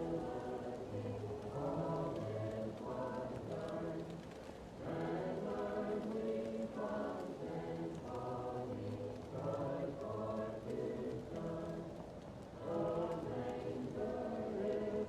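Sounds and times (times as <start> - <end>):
fireplace crackling: 0.0 - 15.0
muffled choir singing: 0.0 - 15.0.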